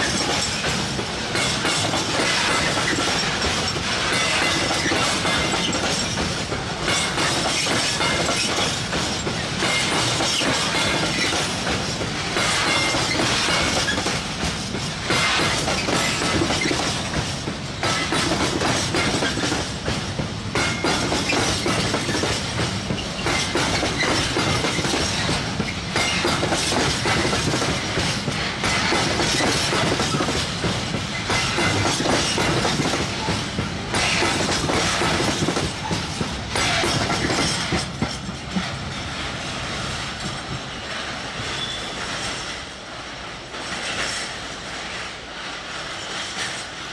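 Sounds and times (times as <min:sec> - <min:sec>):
wheels clanking on rail joints: 0:00.0 - 0:42.8
train rolling rumble: 0:00.0 - 0:46.9.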